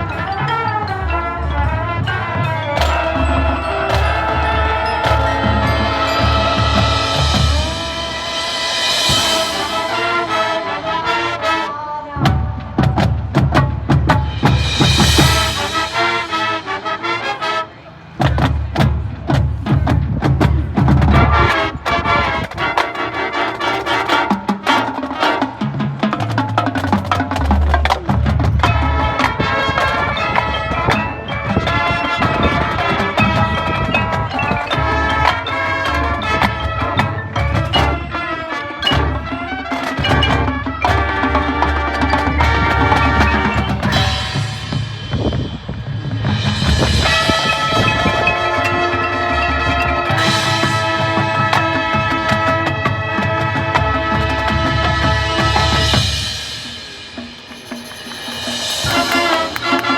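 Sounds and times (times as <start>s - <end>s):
marching band playing: 0.0s - 59.9s.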